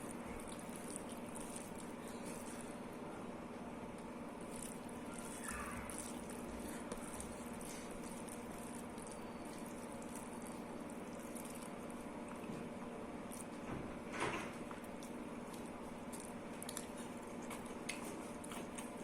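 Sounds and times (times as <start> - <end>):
wet squishing and lip-smacking: 0.0 - 2.8, 4.0 - 13.7, 14.6 - 19.0
steady background hum: 0.0 - 19.0.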